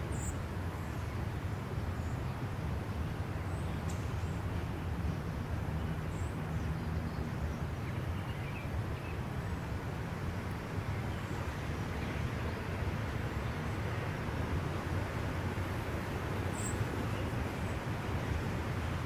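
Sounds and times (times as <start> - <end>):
low outdoor background rumble: 0.0 - 19.0.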